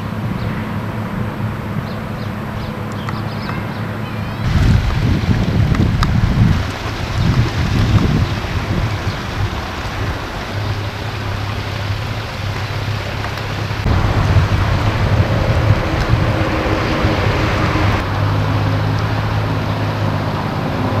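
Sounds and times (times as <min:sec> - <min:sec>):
low motor hum: 0:00.0 - 0:21.0
wind buffeting microphone: 0:00.0 - 0:21.0
lapping water: 0:01.6 - 0:21.0.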